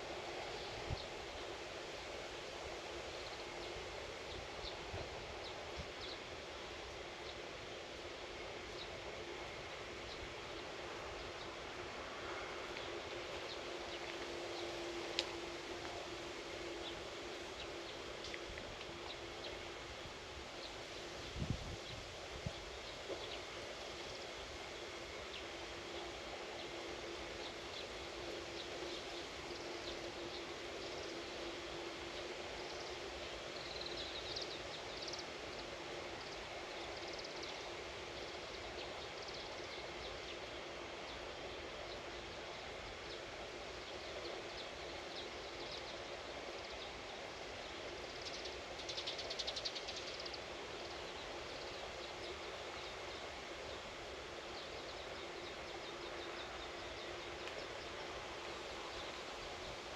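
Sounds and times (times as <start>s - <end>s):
steady background hiss: 0.0s - 59.9s
steady low hum: 0.0s - 59.9s.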